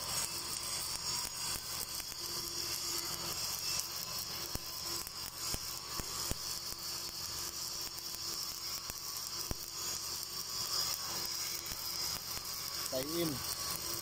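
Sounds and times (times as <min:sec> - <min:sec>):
sharp spatter pops: 0:00.0 - 0:12.6
welding arc crackling hiss: 0:00.0 - 0:14.0.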